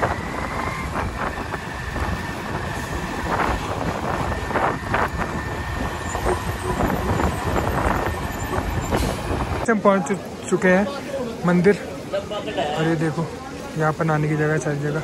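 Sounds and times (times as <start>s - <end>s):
engine and road rumble: 0.0s - 15.0s.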